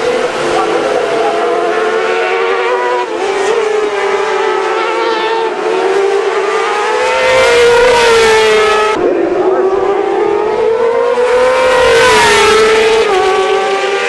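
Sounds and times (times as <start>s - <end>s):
sport bikes revving: 0.0s - 14.0s.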